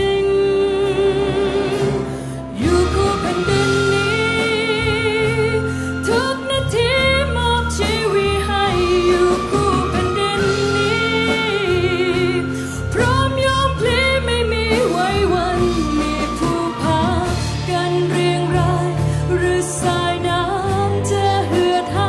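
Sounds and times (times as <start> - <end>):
band accompaniment: 0.0 - 22.0
woman singing with vibrato: 0.0 - 22.0.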